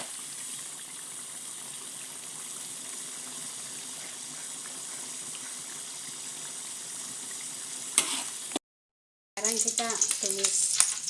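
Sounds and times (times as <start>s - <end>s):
sauce sizzling in a pan: 0.0s - 8.6s, 9.4s - 11.0s.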